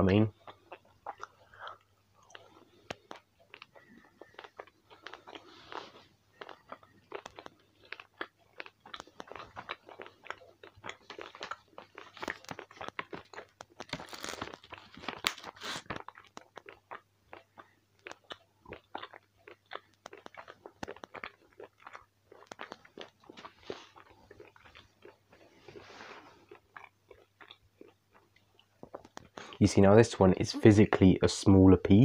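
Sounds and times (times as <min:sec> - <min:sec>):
wet chewing mouth clicks: 0:00.0 - 0:29.6.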